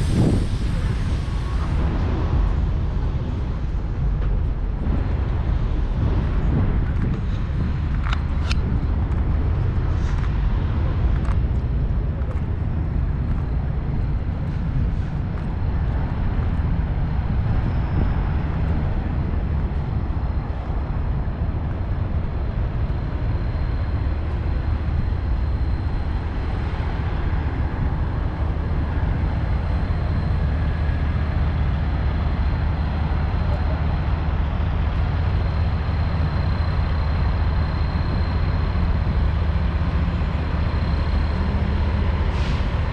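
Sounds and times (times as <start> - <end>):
idling truck engines rumble: 0.0 - 42.9.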